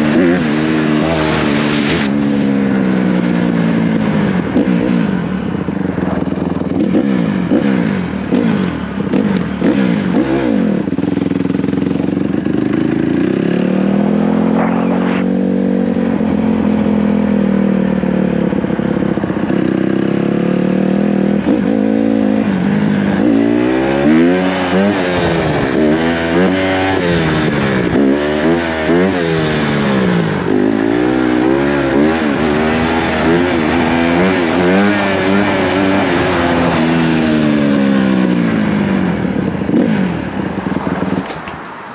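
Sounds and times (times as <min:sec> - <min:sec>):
dirt bike engine revving: 0:00.0 - 0:40.3.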